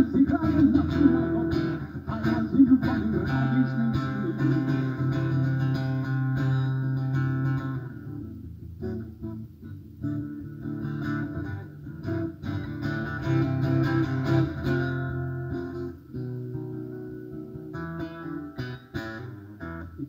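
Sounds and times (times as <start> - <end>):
acoustic guitar strumming and plucking: 0.0 - 20.0.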